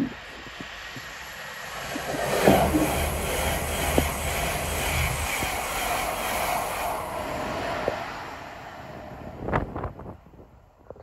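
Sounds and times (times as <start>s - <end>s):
high-speed train passing: 0.0s - 10.8s.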